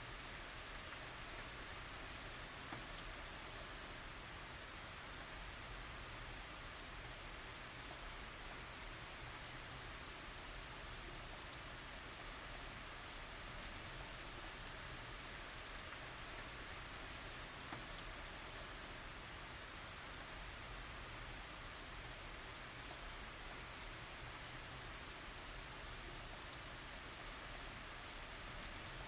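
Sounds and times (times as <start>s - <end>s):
rain hissing with drop ticks: 0.0s - 29.0s.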